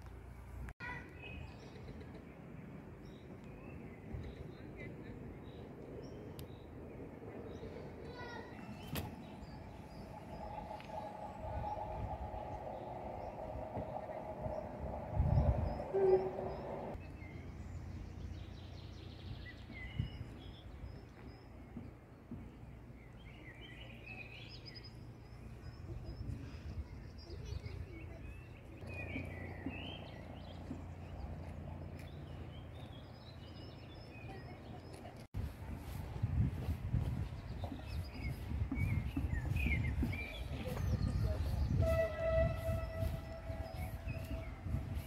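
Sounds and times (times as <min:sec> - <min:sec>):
songbirds chirping and warbling: 0:00.8 - 0:45.0
low outdoor rumble: 0:01.6 - 0:45.0.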